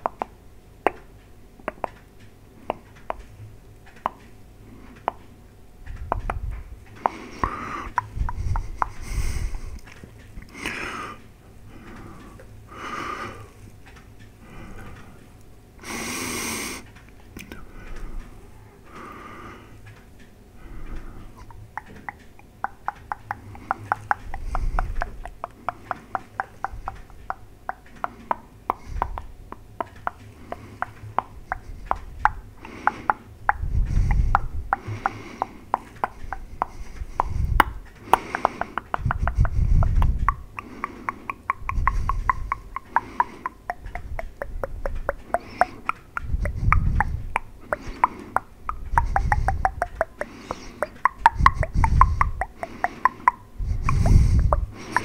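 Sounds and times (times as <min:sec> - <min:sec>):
tongue clicks and lip smacks: 0:00.0 - 0:05.3, 0:05.9 - 0:10.9, 0:16.8 - 0:18.3, 0:20.9 - 0:55.0.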